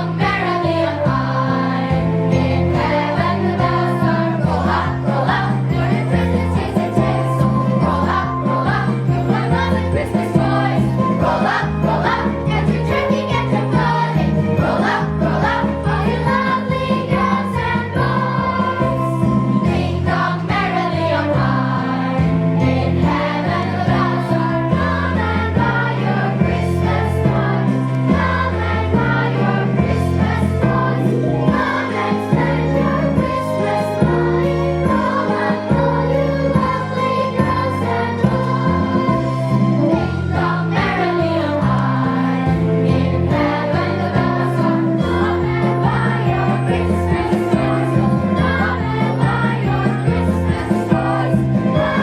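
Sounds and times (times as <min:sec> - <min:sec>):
choir singing: 0:00.0 - 0:52.0.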